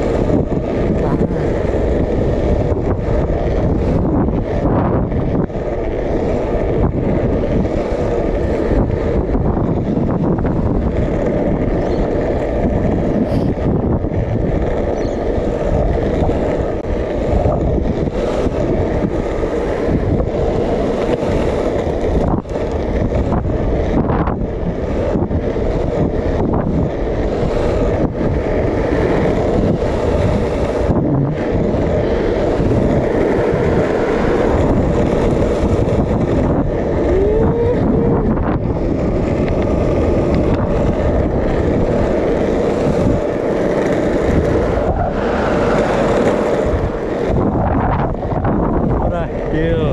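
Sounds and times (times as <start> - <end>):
skateboard wheels rolling on asphalt: 0.0 - 49.9
wind buffeting microphone: 0.0 - 49.9.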